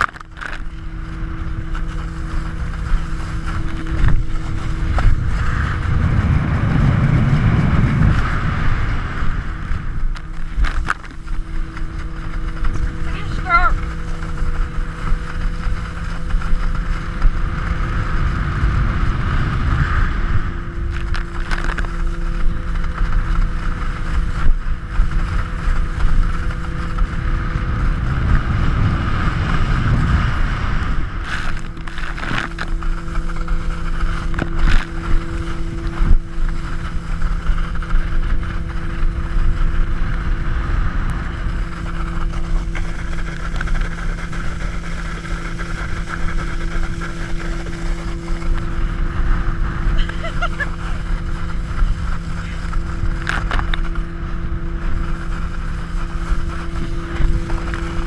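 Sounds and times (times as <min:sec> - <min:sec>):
boat engine drone: 0:00.0 - 0:58.0
wind buffeting microphone: 0:00.0 - 0:58.0.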